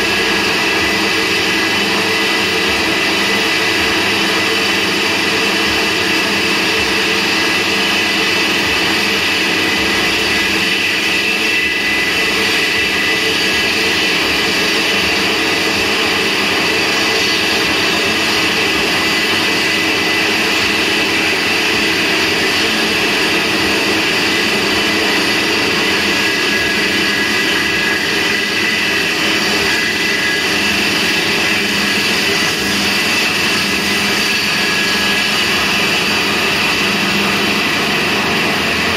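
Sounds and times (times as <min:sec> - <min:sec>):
band saw whining: 0:00.0 - 0:38.9.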